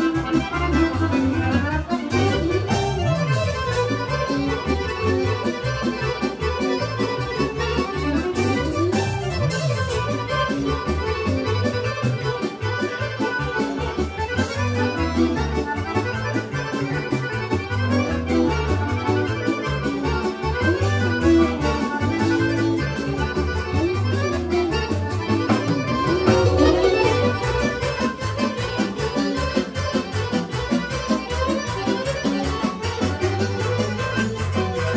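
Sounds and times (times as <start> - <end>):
folk dance band music: 0.0 - 34.9.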